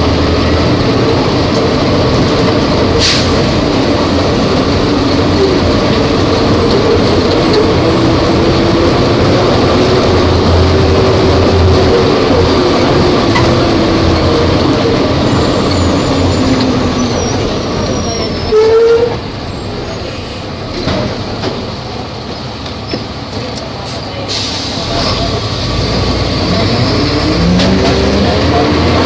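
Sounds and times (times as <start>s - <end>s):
bus diesel engine: 0.0s - 29.0s.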